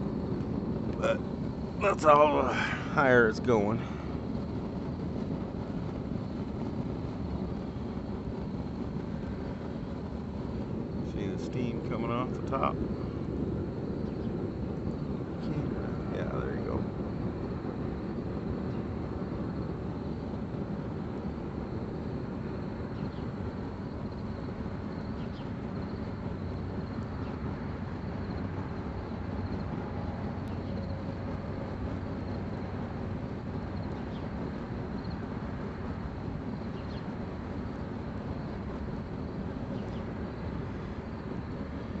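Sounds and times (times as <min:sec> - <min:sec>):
propane forge burner rushing: 0:00.0 - 0:42.0.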